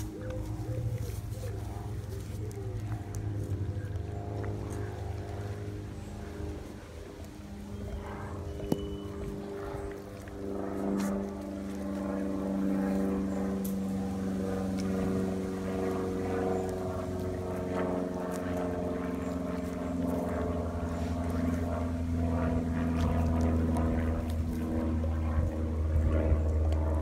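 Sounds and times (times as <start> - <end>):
dog crunching on bone: 0.0 - 27.0
steady motor-like drone: 0.0 - 27.0.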